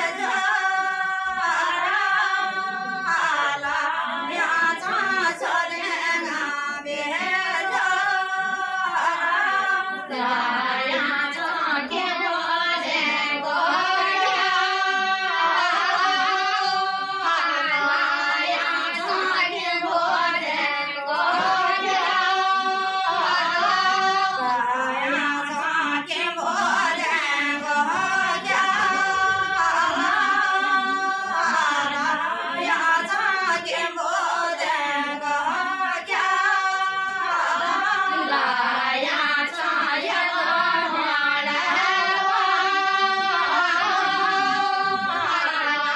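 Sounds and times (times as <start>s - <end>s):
women singing a wedding song: 0.0s - 45.9s.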